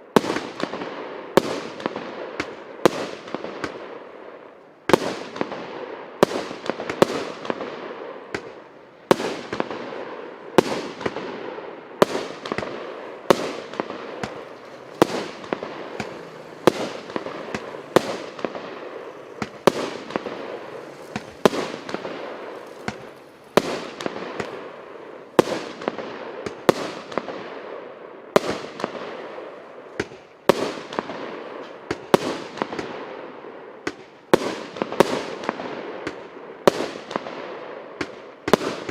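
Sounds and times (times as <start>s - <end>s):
firework bangs: 0.1s - 38.9s
firework crackling and hiss: 0.2s - 38.9s.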